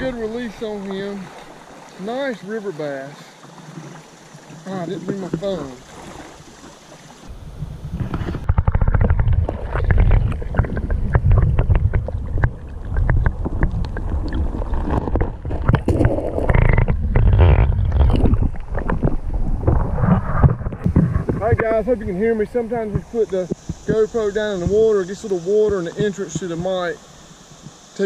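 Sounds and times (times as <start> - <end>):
muffled underwater river sloshing: 0.0 - 28.0.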